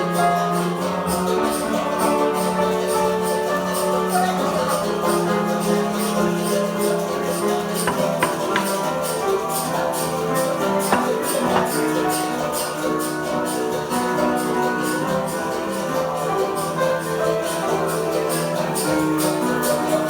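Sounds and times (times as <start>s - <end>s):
piano chords: 0.0s - 20.0s
shakers: 0.0s - 20.0s.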